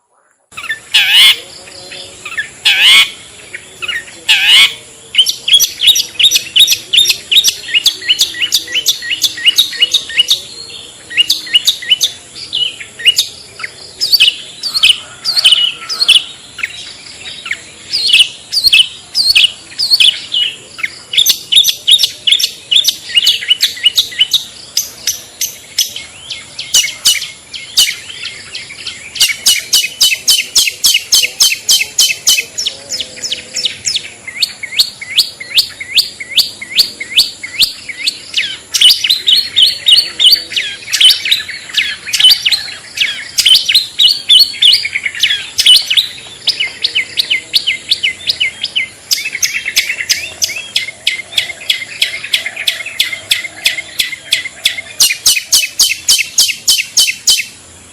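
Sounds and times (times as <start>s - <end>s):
rapid high bird chirps: 0.5s - 57.7s.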